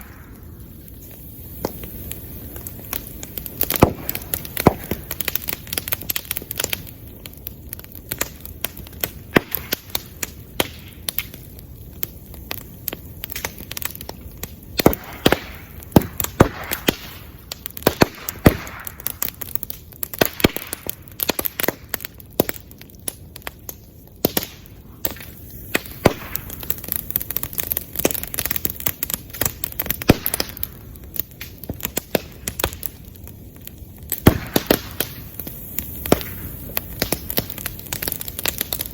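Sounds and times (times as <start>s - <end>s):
bamboo popping in flames: 0.0s - 38.9s
bonfire crackling: 0.0s - 38.9s.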